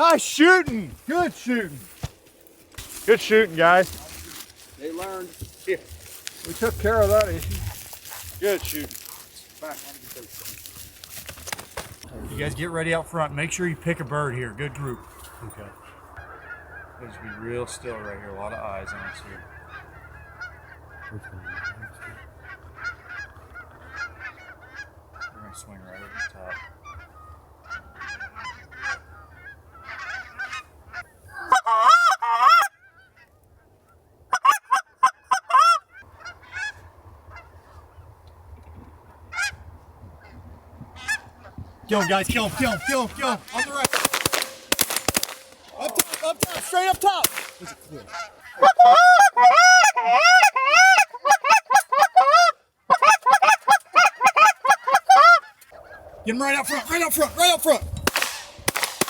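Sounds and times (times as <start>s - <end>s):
geese honking: 0.0s - 33.4s, 34.3s - 38.4s, 39.0s - 59.0s.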